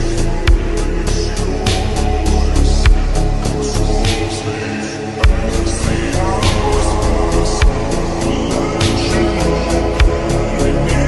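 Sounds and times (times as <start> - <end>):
heavy bass hit: 0.0 - 4.4, 5.2 - 11.0
slowed reverb electronic music: 0.0 - 11.0.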